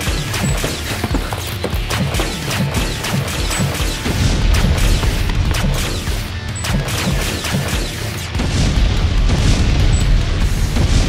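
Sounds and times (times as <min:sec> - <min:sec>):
blaster shots and impacts: 0:00.0 - 0:01.0, 0:01.9 - 0:11.0
action soundtrack music: 0:00.0 - 0:11.0.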